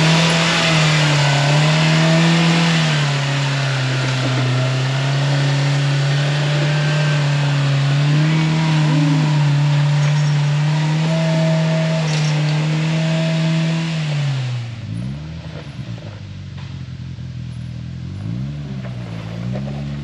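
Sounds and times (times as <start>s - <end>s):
trail noise: 0.0s - 20.0s
vehicle engine running: 0.0s - 20.0s
wind: 0.0s - 20.0s.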